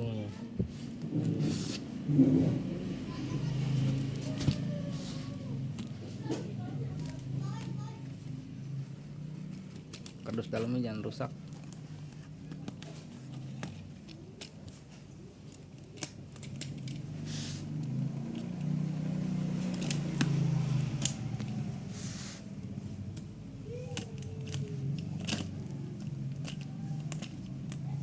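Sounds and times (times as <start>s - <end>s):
cardboard and tape crackling: 0.5s - 28.0s.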